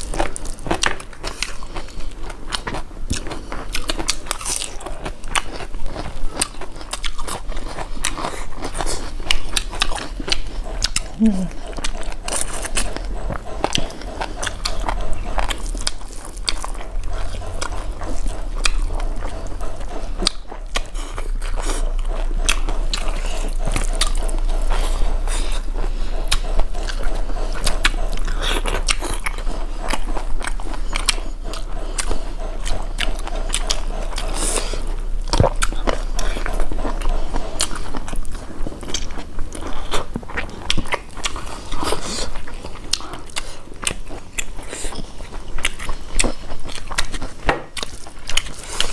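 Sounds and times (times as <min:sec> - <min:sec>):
people chewing food: 0:00.0 - 0:48.9
wet mouth clicks: 0:02.6 - 0:48.9.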